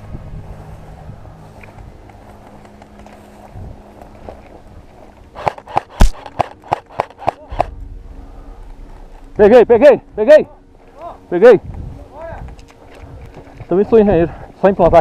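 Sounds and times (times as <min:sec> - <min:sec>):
low steady background: 0:00.0 - 0:15.0.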